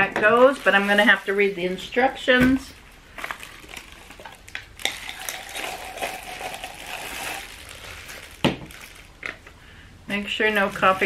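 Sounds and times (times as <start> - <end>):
plastic packaging crinkling: 0.0 - 9.6, 10.5 - 11.0.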